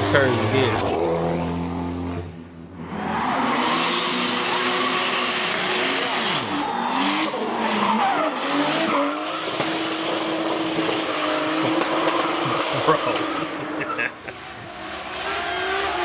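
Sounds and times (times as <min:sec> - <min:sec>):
race car engine revving: 0:00.0 - 0:16.0
tyres squealing and skidding: 0:02.8 - 0:16.0.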